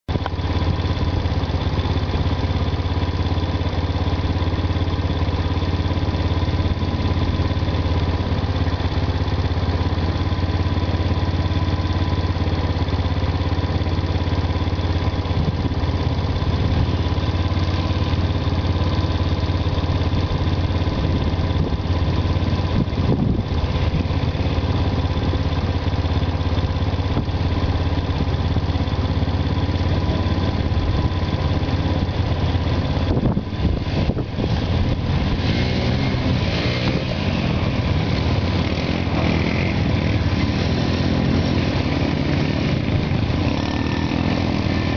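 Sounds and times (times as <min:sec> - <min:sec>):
quad bike engine idling: 0:00.1 - 0:44.9.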